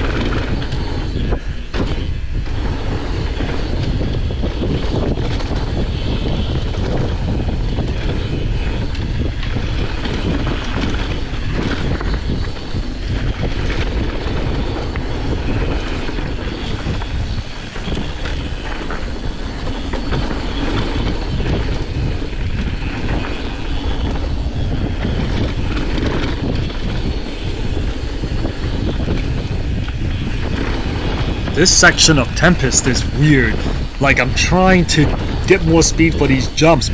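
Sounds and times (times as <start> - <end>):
bike rattling and knocking: 0.0 - 31.6
wind rushing over microphone: 0.0 - 36.9.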